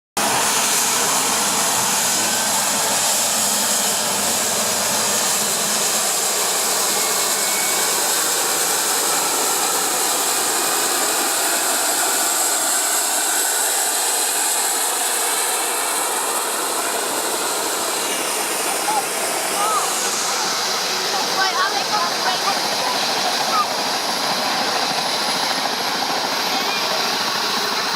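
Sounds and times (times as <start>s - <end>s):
helicopter turbine engine hiss: 0.2s - 27.9s.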